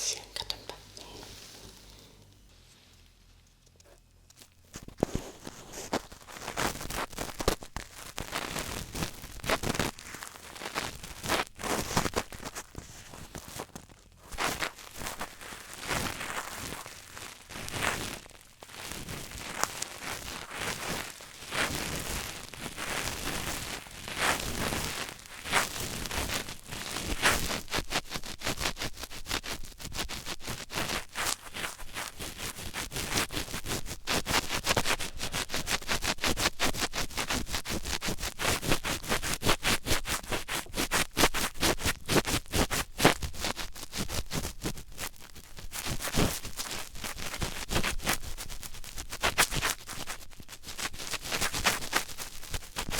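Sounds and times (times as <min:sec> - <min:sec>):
scratching and crackling: 0:00.0 - 0:26.4, 0:27.0 - 0:52.9.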